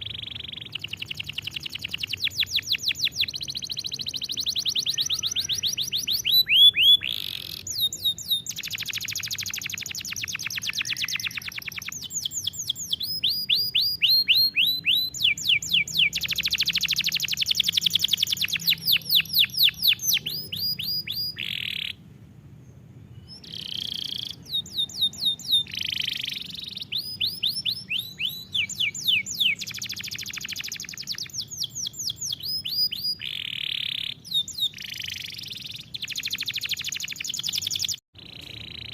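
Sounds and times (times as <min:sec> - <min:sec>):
canary singing: 0:00.0 - 0:22.0, 0:23.1 - 0:38.9.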